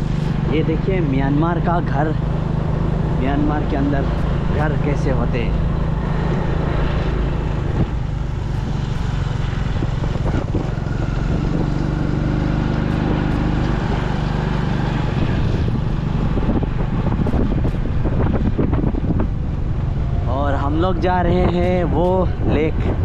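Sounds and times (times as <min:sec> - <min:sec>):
vehicle engine running: 0:00.0 - 0:22.8
wind buffeting microphone: 0:00.0 - 0:23.0.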